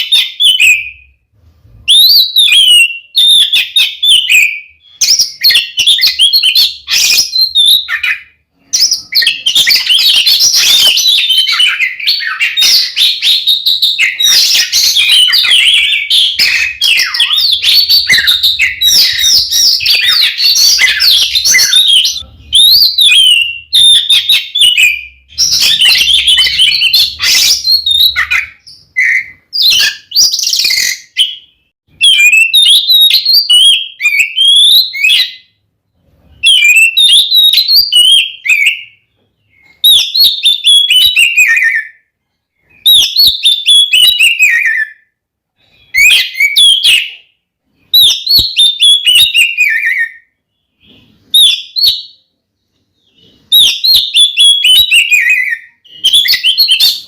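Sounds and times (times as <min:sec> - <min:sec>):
songbird whistling and chattering: 0:00.0 - 0:01.2, 0:01.8 - 0:35.5, 0:36.3 - 0:42.0, 0:42.6 - 0:45.0, 0:45.6 - 0:47.2, 0:47.8 - 0:52.2, 0:53.0 - 0:57.0.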